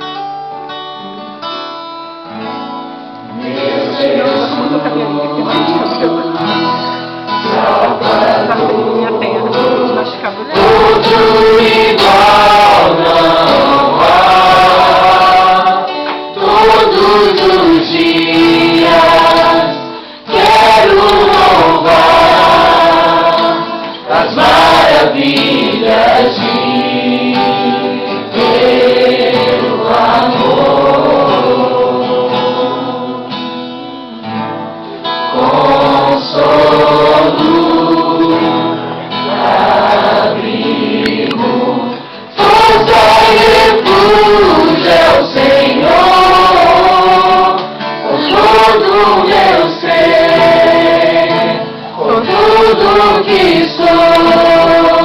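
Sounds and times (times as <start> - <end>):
group singing worship song: 3.2 - 34.4, 35.0 - 55.0.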